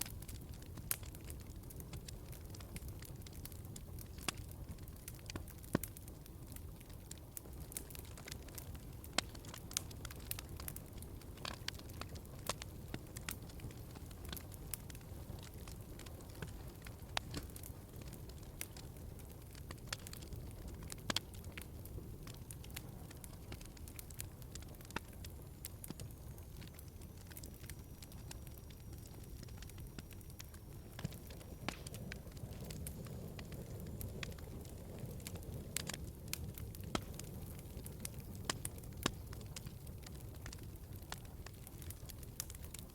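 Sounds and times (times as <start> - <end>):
fire flames rumbling: 0.0 - 42.9
wood fire crackling and popping: 0.0 - 42.9.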